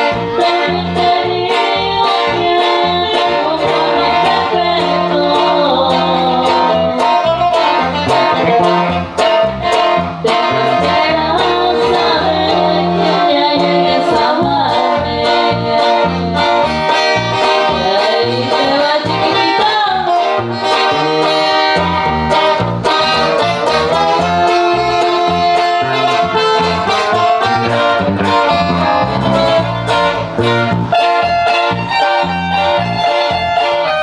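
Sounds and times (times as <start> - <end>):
bass line: 0.0 - 34.0
plucked guitar: 0.0 - 34.0.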